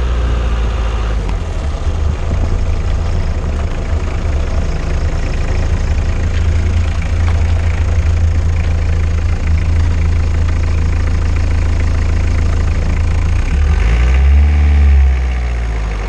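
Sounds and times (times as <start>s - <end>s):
old car engine rumbling: 0.0s - 16.0s.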